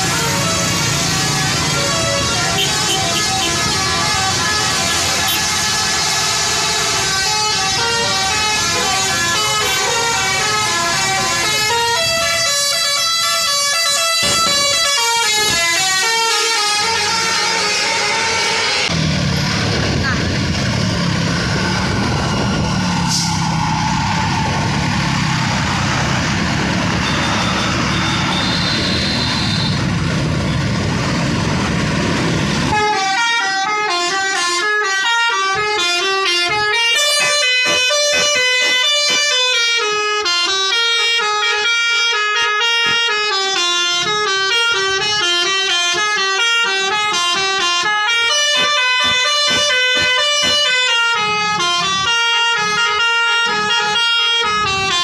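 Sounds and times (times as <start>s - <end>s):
bus multi-tone horn melody: 0.0s - 19.0s, 26.8s - 30.6s, 32.4s - 55.0s
traffic and engine noise: 0.0s - 55.0s.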